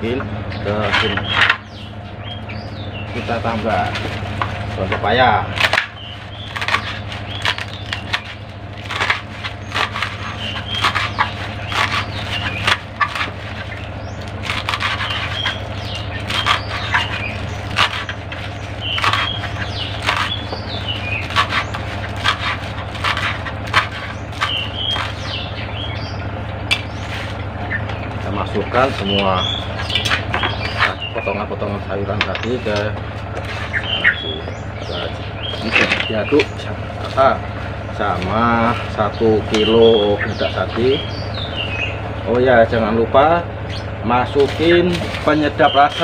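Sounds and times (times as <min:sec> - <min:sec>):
knife chopping leaves on wood: 0:00.0 - 0:01.7, 0:03.0 - 0:25.6, 0:26.7 - 0:41.4, 0:44.0 - 0:46.0.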